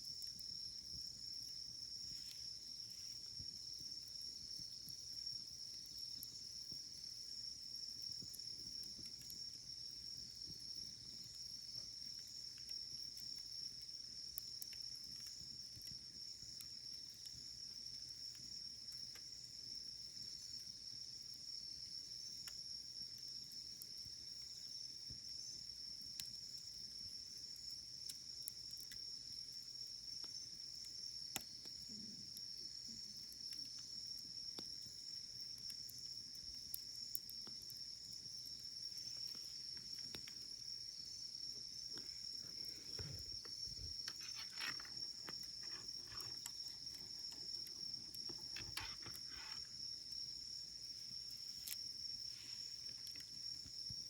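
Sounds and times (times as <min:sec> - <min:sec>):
campfire crackling: 0:00.0 - 0:54.0
insect trill: 0:00.0 - 0:54.0.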